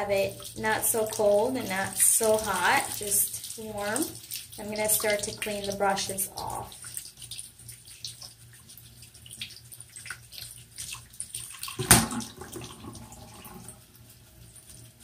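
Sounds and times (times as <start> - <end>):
tap water running and splashing: 0.0 - 15.0.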